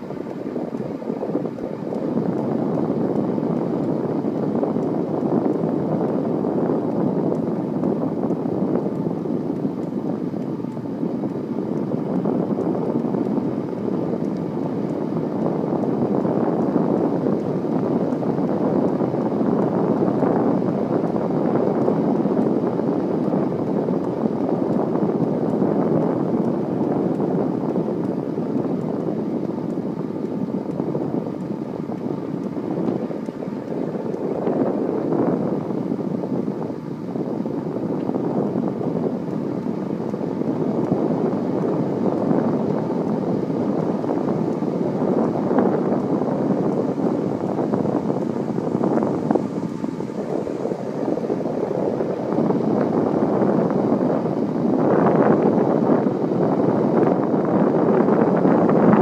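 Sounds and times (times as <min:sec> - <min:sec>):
wind over microphone: 0:00.0 - 0:59.0.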